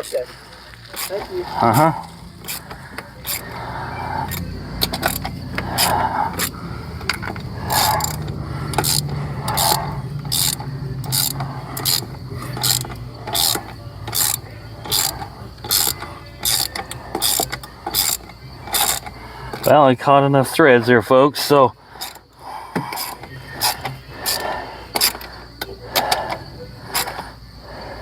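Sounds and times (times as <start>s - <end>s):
ratchet wrench clicking: 0.0s - 27.4s.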